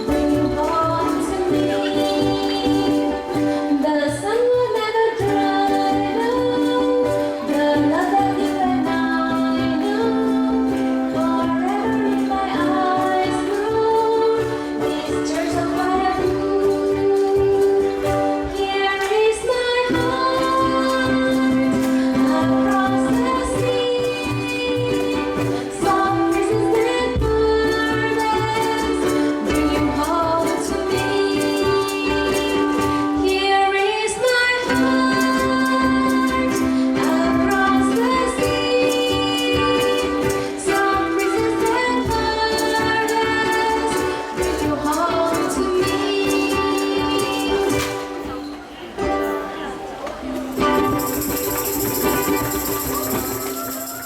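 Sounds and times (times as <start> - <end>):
person singing: 0.0 - 49.7, 50.4 - 54.0
ukulele ensemble playing: 0.0 - 54.0.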